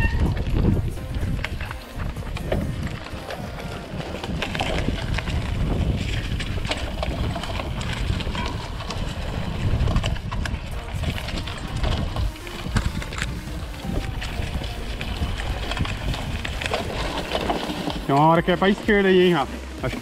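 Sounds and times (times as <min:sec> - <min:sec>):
wind buffeting microphone: 0:00.0 - 0:19.5
bike tyres and frame clattering: 0:00.0 - 0:20.0.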